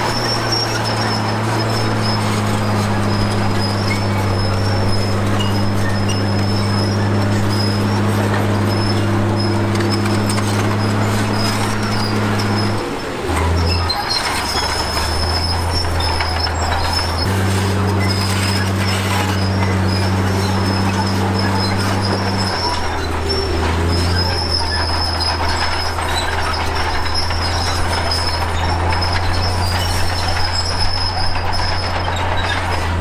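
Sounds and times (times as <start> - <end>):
diesel earthmoving machinery running: 0.0 - 33.0.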